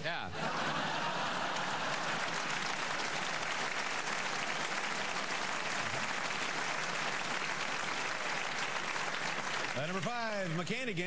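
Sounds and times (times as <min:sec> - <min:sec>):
studio audience applauding: 0:00.4 - 0:10.9.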